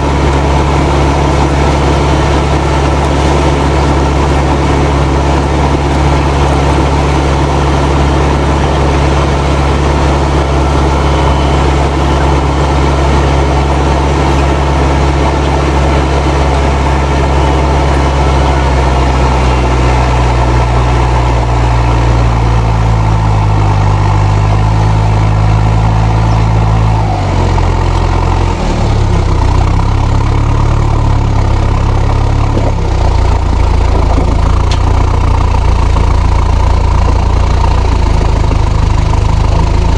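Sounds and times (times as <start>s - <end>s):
tractor diesel engine running hard: 0.0s - 39.9s
turbo whistling: 0.0s - 39.9s.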